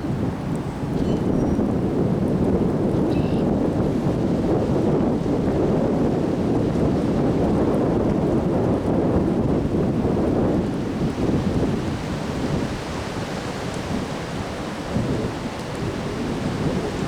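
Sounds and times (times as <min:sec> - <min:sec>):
strong wind gusting: 0:00.0 - 0:17.0
wind buffeting microphone: 0:00.0 - 0:17.0.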